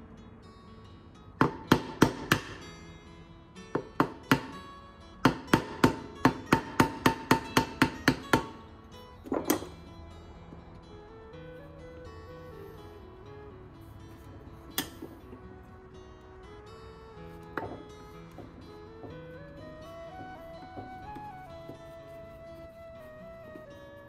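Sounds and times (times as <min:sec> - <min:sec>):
guitar music: 0:00.0 - 0:24.0.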